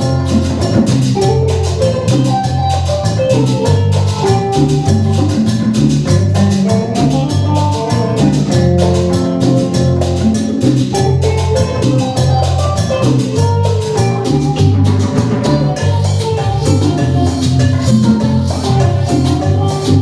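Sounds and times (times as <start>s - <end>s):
bass guitar line: 0.0s - 20.0s
live band playing cumbia: 0.0s - 20.0s
percussion on the beat: 0.0s - 20.0s.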